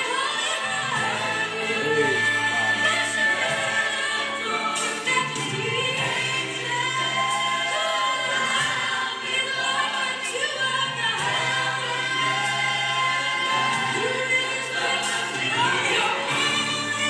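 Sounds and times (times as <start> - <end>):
choir singing gospel song: 0.0 - 17.0
sustained instrumental backing: 0.0 - 17.0.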